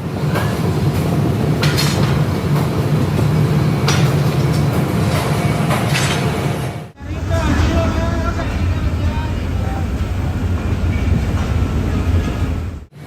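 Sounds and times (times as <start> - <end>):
industrial machinery humming: 0.0 - 13.0.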